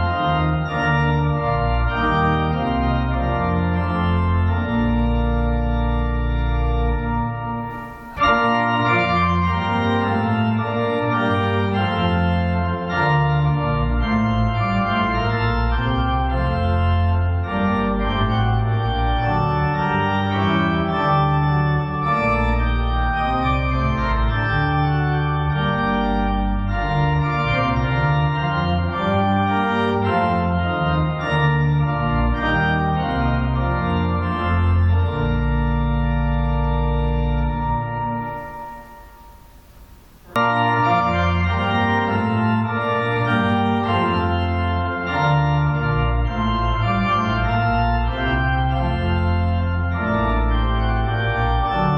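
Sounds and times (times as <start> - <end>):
church organ chords: 0.0 - 51.9.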